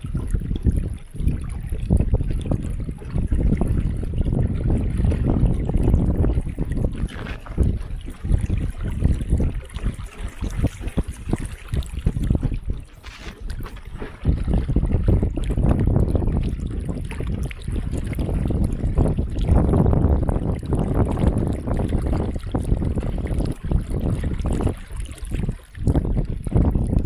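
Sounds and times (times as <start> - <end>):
water lapping against wooden boat: 0.0 - 27.0
wind rumbling on microphone: 0.0 - 27.0.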